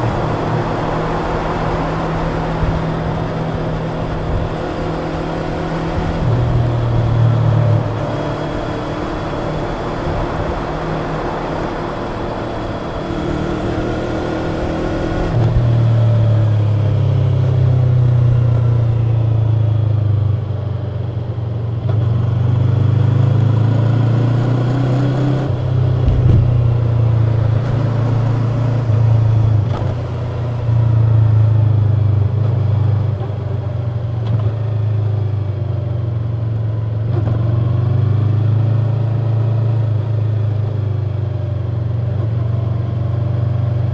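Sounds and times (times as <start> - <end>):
motorcycle engine revving: 0.0 - 43.9
wind and road noise: 0.0 - 43.9.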